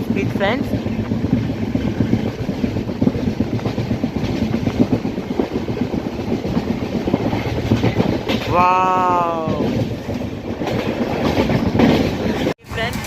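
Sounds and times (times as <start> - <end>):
train rumbling: 0.0 - 13.0
wheels clattering over rail joints: 0.0 - 13.0.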